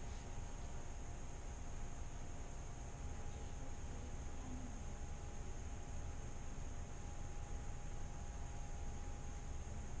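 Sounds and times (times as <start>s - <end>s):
faint high steady tone: 0.0s - 10.0s.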